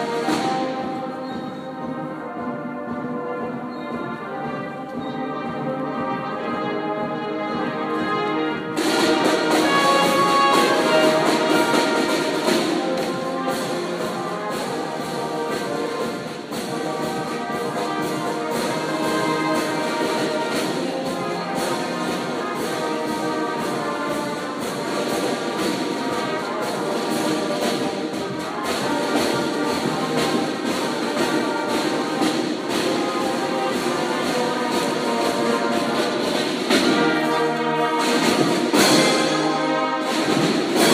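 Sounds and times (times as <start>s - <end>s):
marching band playing: 0.0s - 40.9s.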